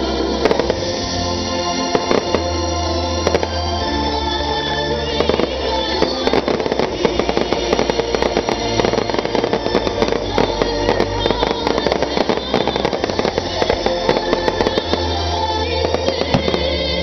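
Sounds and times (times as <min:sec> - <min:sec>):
fireworks bursting and crackling: 0:00.0 - 0:17.0
music playing: 0:00.0 - 0:17.0.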